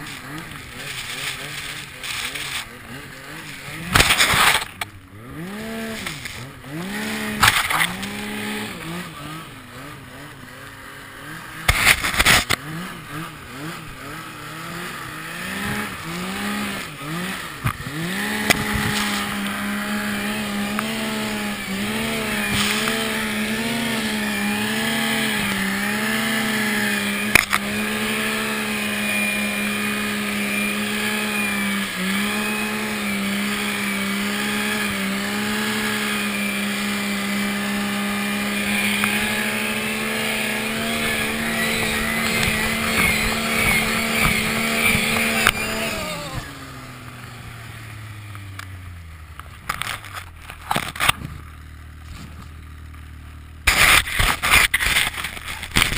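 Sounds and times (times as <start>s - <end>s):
snowmobile engine revving: 0.0s - 55.9s.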